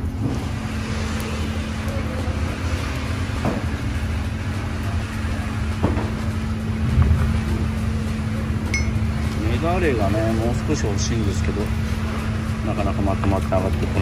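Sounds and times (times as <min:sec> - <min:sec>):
machinery rumble and hum: 0:00.0 - 0:14.0.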